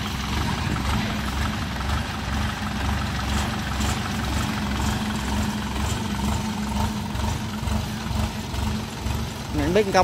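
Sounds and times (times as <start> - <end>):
small engine idling: 0.0 - 10.0.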